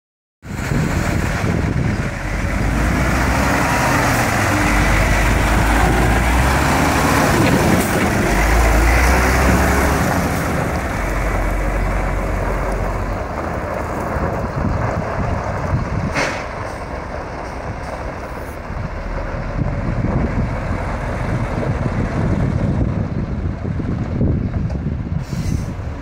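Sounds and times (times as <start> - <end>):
truck diesel engine rumble: 0.4 - 26.0.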